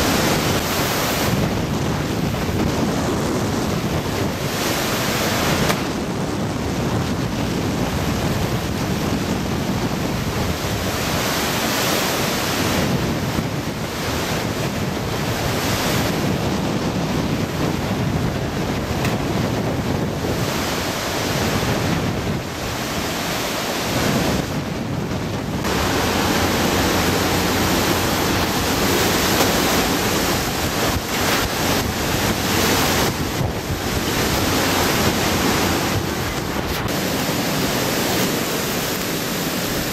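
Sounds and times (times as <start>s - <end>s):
heavy wind-driven rain: 0.0s - 39.9s
strong wind rushing: 0.0s - 39.9s
wind buffeting microphone: 0.0s - 39.9s.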